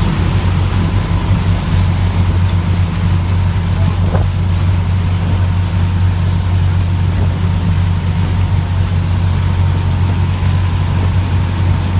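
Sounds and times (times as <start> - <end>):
motorboat engine droning: 0.0 - 11.9
water rushing: 0.0 - 11.9.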